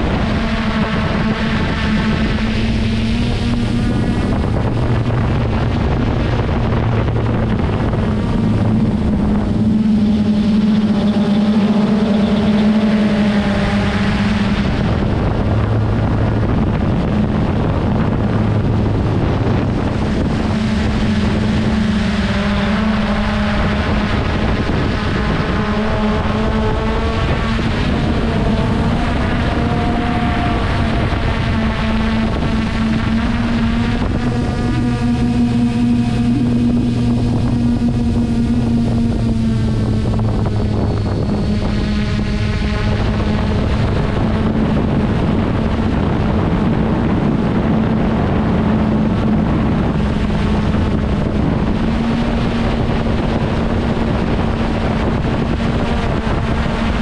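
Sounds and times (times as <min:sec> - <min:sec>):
quadcopter propellers droning: 0:00.0 - 0:57.0.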